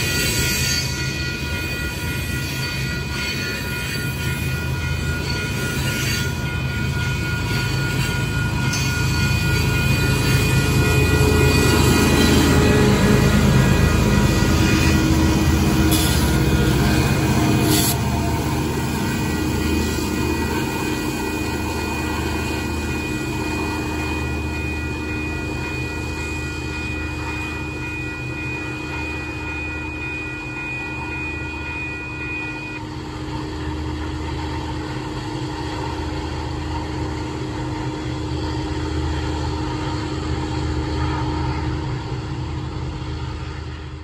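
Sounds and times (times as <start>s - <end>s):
thin high whine: 0.0s - 36.1s
train diesel engine and wheels rumbling: 0.0s - 44.0s.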